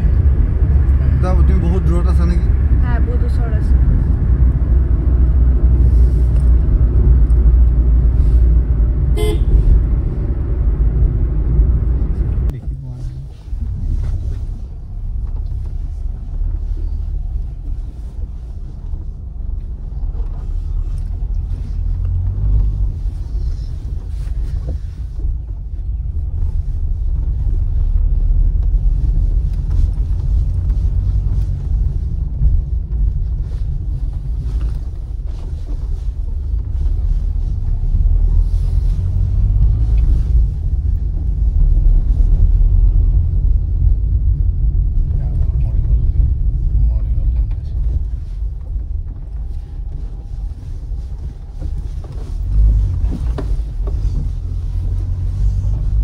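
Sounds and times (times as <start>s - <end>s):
tyre rumble on dirt road: 0.0s - 56.0s.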